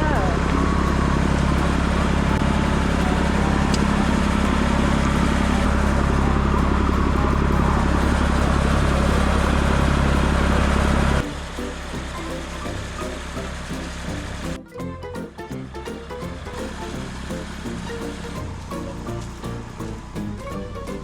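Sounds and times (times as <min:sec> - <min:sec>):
engine running steadily: 0:00.0 - 0:21.0
quiet music: 0:00.0 - 0:21.0.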